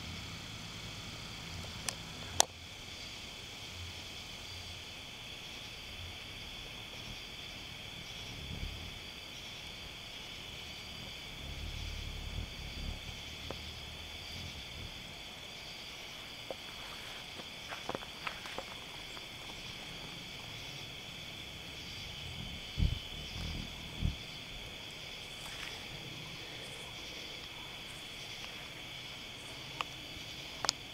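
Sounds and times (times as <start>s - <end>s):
low rumbling: 0.0s - 30.6s
insects chorus: 0.0s - 30.9s.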